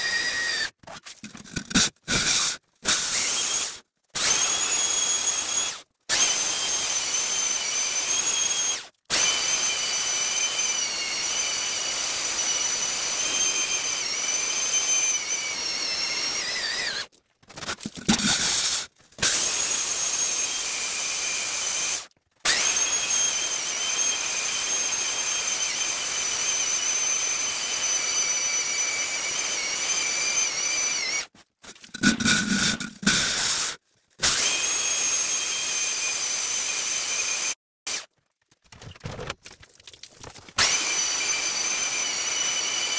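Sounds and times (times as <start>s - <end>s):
core drill boring into rock: 0.0s - 38.0s, 40.6s - 42.9s.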